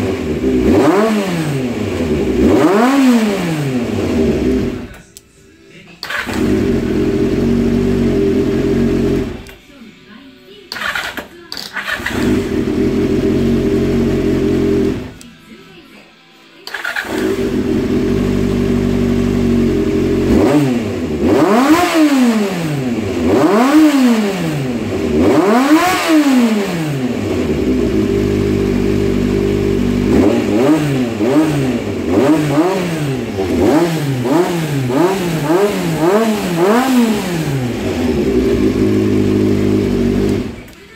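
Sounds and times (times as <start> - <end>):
motorcycle engine idling and revving: 0.0 - 5.0, 6.0 - 9.6, 10.7 - 15.2, 16.7 - 40.9.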